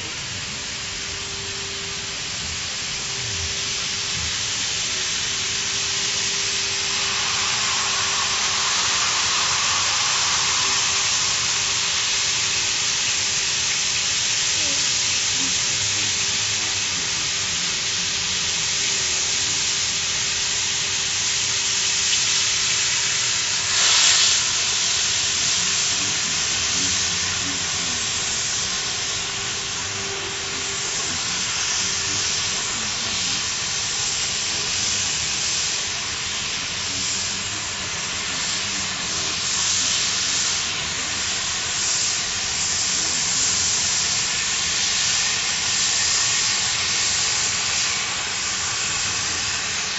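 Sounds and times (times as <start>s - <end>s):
cutting torch hissing: 0.0s - 49.9s.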